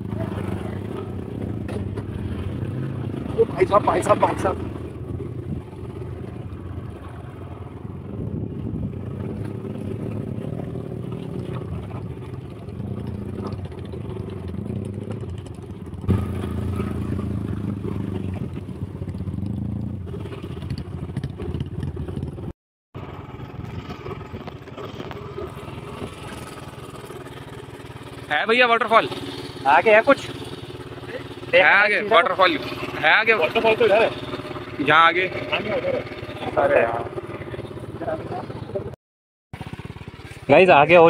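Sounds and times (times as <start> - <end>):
motorcycle engine running: 0.0 - 39.0, 39.6 - 41.0.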